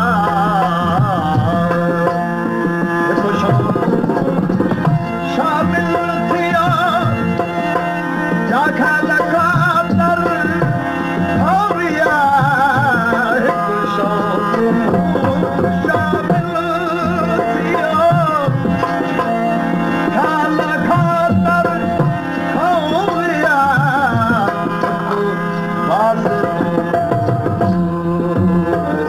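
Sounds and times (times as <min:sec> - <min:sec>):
ornamented melody: 0:00.0 - 0:29.0
tabla drumming: 0:00.0 - 0:29.0.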